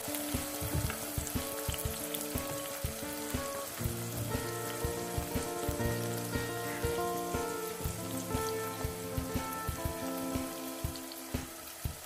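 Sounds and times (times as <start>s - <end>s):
background music with held notes: 0.0s - 12.0s
small pops of frying: 0.0s - 12.0s
vegetables sizzling in a pot: 0.0s - 12.0s.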